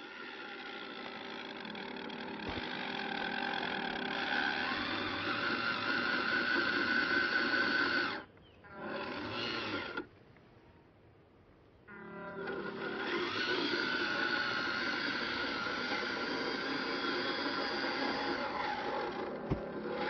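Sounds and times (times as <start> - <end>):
toy car electric motor whining: 0.0 - 10.1, 11.9 - 20.0.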